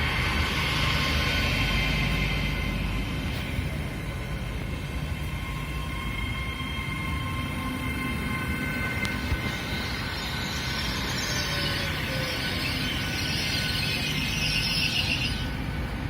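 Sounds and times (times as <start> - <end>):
train arriving and slowing: 0.0 - 16.0.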